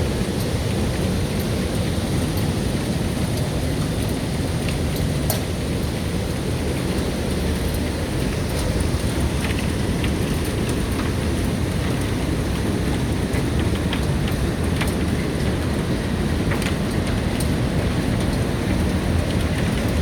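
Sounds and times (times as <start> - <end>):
heavy hail and rain roar: 0.0 - 20.0
hailstones ticking on hard surfaces: 0.1 - 20.0.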